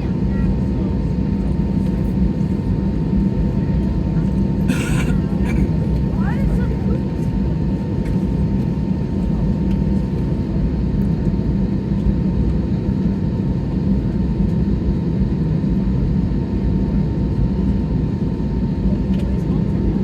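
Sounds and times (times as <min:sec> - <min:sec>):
airliner engines rumbling: 0:00.0 - 0:20.0.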